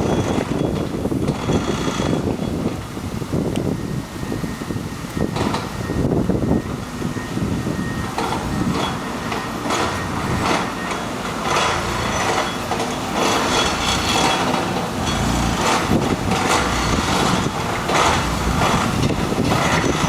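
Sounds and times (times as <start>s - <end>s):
excavator engine rumble: 0.0s - 20.0s
plate compactor pounding ground: 0.0s - 20.0s.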